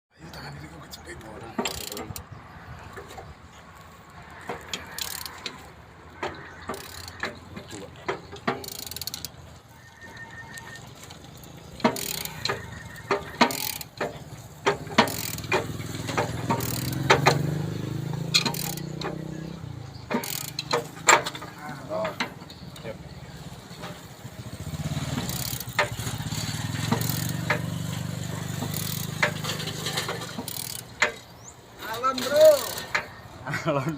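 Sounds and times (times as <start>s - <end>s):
passing vehicle engines: 0.1s - 33.9s
metallic clicks and knocks: 1.4s - 33.4s.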